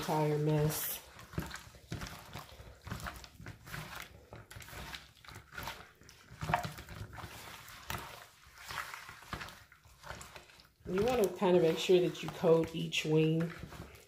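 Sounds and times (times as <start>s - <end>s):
wet squelching of raw chicken: 0.0s - 14.0s.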